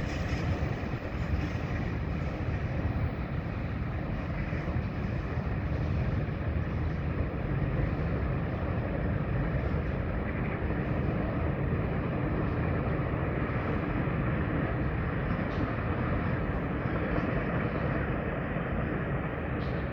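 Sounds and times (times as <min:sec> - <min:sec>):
freight train rumbling: 0:00.0 - 0:19.9.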